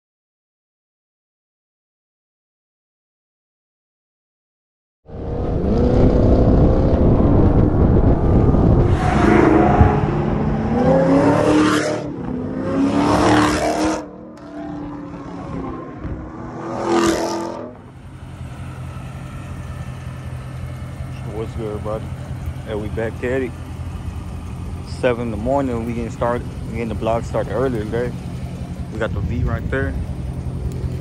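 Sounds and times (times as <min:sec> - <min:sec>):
car engine accelerating hard: 0:05.1 - 0:31.0
road and wind noise: 0:05.1 - 0:31.0.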